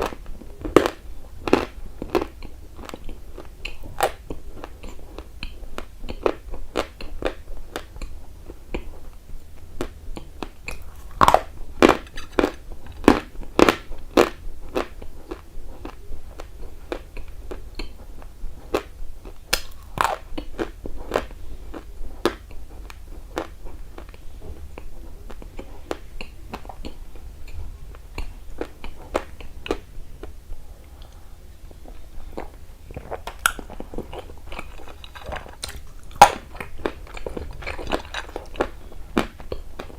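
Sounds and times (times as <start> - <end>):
person chewing crunchy clay: 0.0 - 8.9, 9.8 - 29.9, 32.2 - 39.9.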